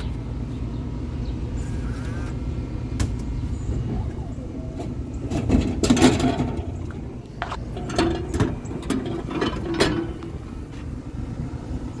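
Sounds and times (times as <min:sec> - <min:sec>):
vending machine low hum: 0:00.0 - 0:12.0.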